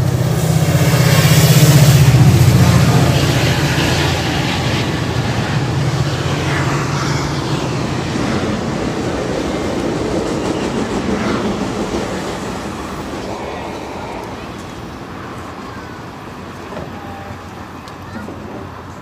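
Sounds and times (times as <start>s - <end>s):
passenger train passing: 0.0s - 19.0s
wheel-on-rail noise: 0.0s - 19.0s.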